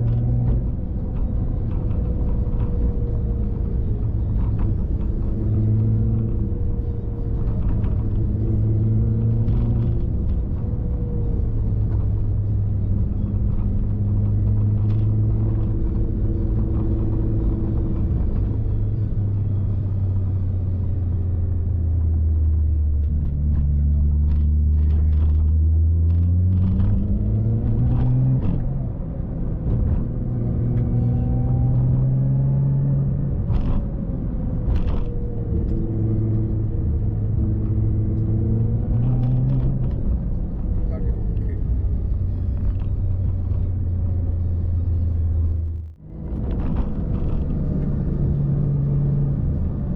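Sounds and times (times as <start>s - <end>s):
car engine running: 0.0s - 49.9s
road noise rumble: 0.0s - 49.9s.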